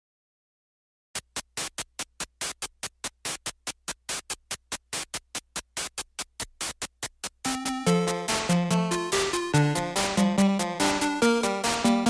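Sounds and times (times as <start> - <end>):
rapid percussive hits: 1.2 - 12.0.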